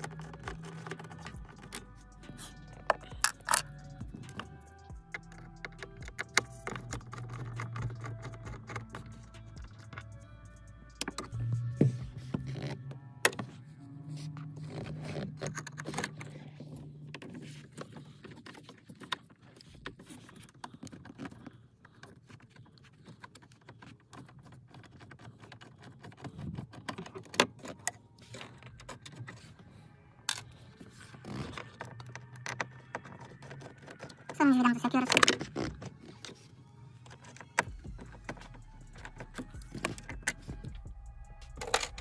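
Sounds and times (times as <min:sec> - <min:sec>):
screwdriver clicking and scraping: 0:00.0 - 0:10.2, 0:14.2 - 0:29.6, 0:30.2 - 0:40.9, 0:41.5 - 0:42.0.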